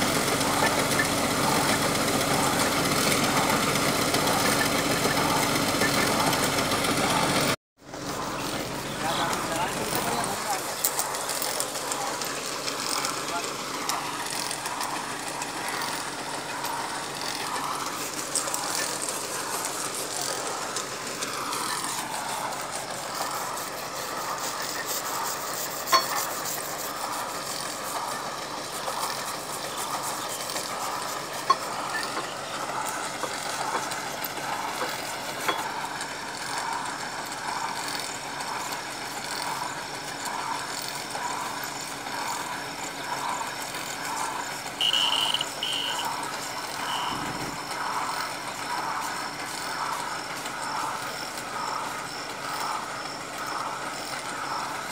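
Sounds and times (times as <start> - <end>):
drilling rig engine running: 0.0 - 54.9
metallic clinks of drill pipe: 9.1 - 54.9.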